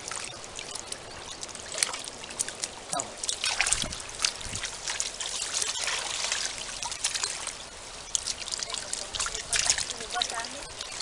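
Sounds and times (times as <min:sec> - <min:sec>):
water splashing: 0:00.0 - 0:11.0
water trickling: 0:00.0 - 0:11.0.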